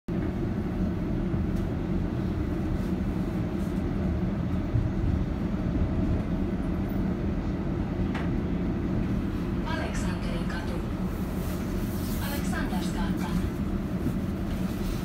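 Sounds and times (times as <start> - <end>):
tram rumbling: 0.1 - 15.0.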